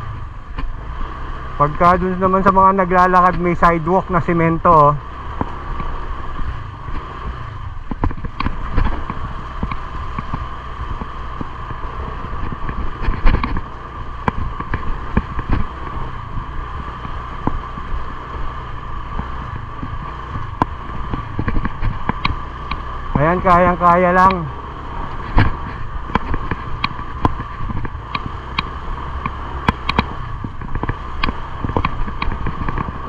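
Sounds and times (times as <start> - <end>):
knocks and rattles over bumps: 0.0 - 0.8, 1.6 - 33.0
scooter engine running: 0.0 - 33.0.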